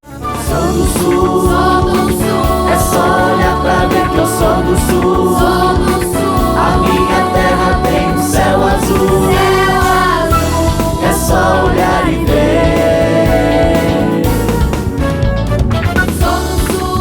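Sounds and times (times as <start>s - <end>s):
band accompaniment: 0.0s - 17.0s
choir singing: 0.3s - 14.9s, 16.2s - 17.0s.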